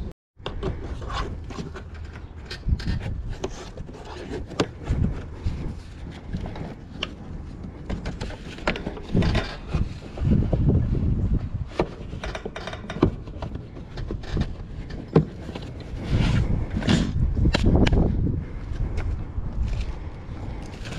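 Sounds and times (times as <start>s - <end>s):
knocks clacks and scraping: 0.4s - 20.9s.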